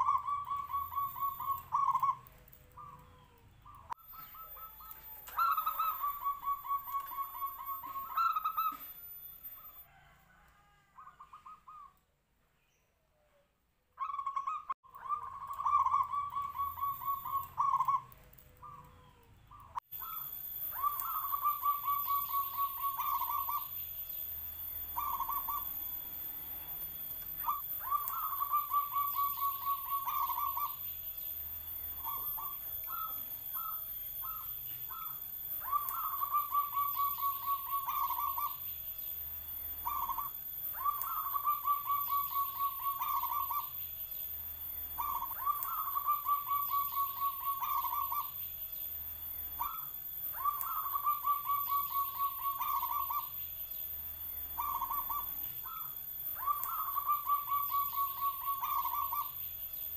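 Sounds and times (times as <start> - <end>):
dove cooing: 0.0 - 12.0, 14.0 - 23.8, 24.7 - 26.0, 27.3 - 30.9, 31.7 - 38.7, 39.6 - 43.8, 44.8 - 48.4, 49.5 - 53.4, 54.5 - 59.5.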